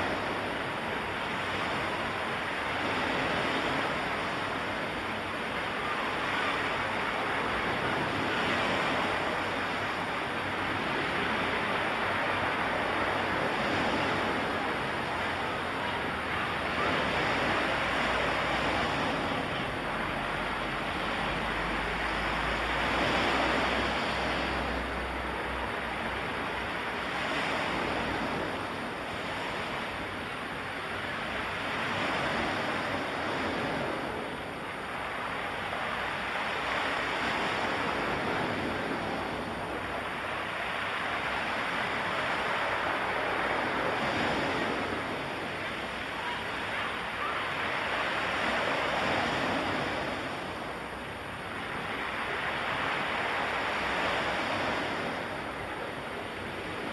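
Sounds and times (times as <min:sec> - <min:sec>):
waves rushing: 0:00.0 - 0:56.9.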